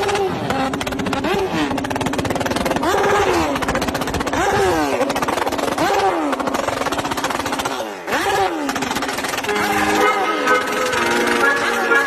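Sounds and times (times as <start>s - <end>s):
motorcycle revving: 0.0s - 12.0s.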